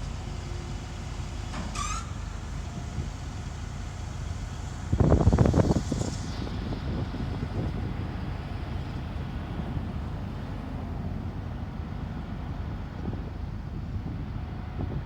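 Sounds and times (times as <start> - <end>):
street sweeper engine rumble: 0.0 - 15.0.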